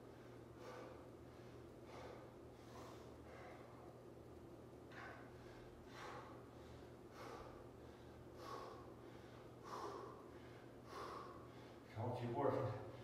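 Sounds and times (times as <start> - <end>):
man breathing hard: 0.0 - 12.0, 12.6 - 13.0.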